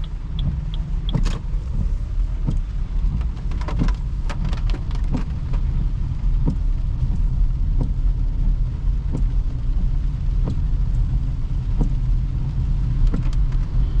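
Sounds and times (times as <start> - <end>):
low road rumble: 0.0 - 14.0.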